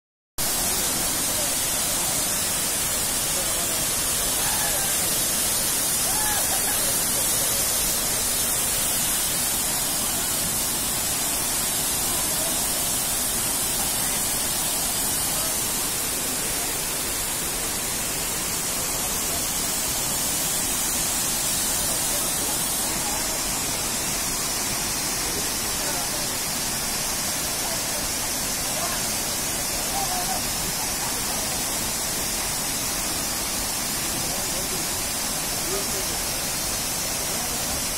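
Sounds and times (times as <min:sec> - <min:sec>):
waterfall roaring: 0:00.4 - 0:37.9.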